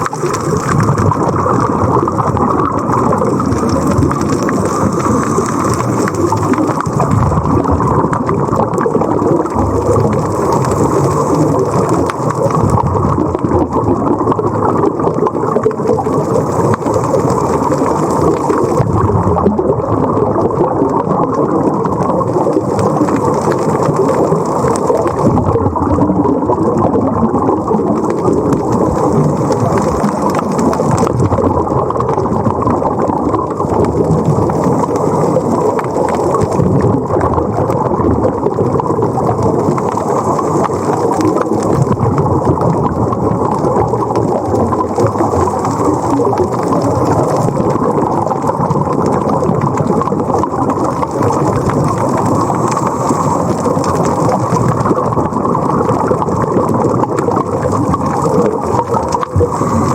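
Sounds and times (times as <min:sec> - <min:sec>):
muffled rushing water: 0:00.0 - 0:59.9.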